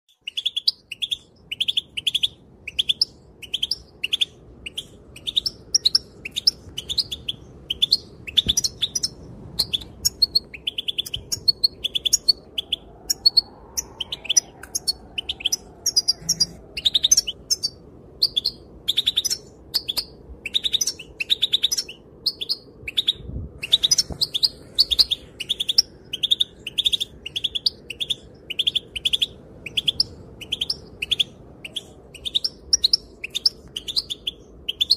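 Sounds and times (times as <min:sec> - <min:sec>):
bird chirping and twittering: 0:00.1 - 0:34.9.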